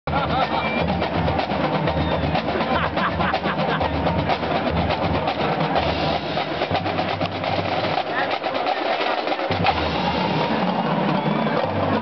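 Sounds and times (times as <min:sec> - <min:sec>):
marching bass drums: 0:00.1 - 0:12.0
snare drums rattling: 0:00.1 - 0:12.0.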